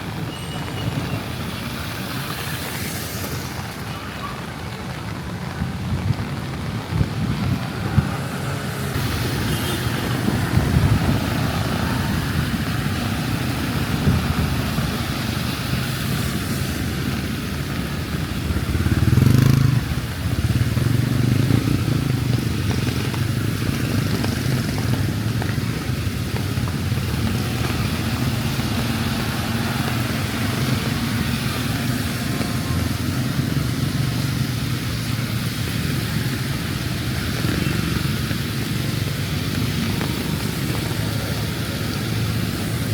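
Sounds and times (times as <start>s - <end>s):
rain falling: 0.0s - 42.9s
traffic on wet road: 0.0s - 42.9s.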